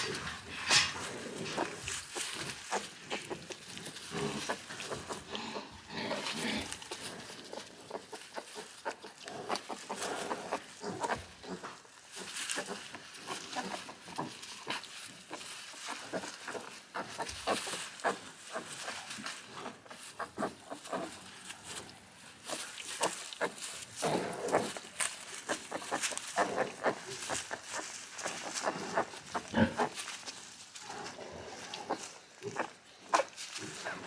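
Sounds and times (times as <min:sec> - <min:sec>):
pig grunts: 0:00.0 - 0:14.8, 0:15.8 - 0:21.8, 0:22.5 - 0:30.0, 0:30.8 - 0:34.0
piglets rustling in bedding: 0:00.0 - 0:34.0.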